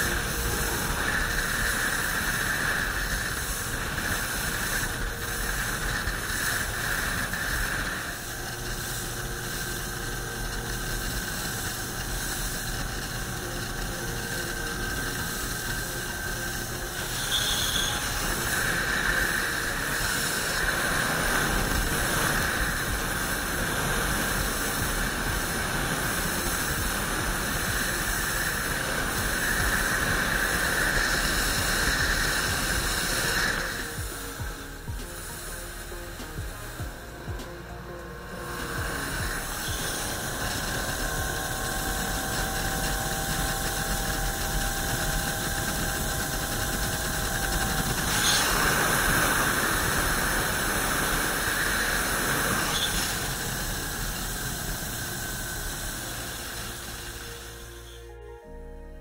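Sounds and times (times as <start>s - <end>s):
wind and water spray hiss: 0.0s - 37.6s, 38.4s - 57.7s
outboard motor running: 0.0s - 58.2s.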